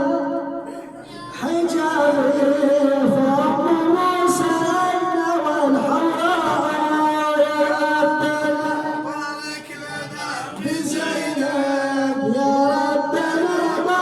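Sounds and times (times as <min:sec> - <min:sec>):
man chanting unaccompanied: 0:00.0 - 0:14.0.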